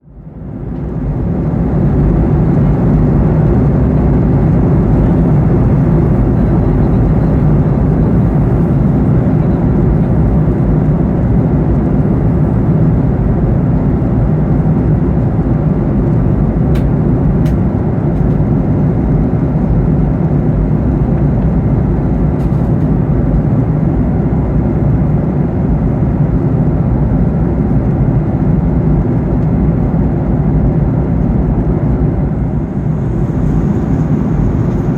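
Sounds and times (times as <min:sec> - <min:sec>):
airplane cabin engine rush: 0:00.0 - 0:34.9.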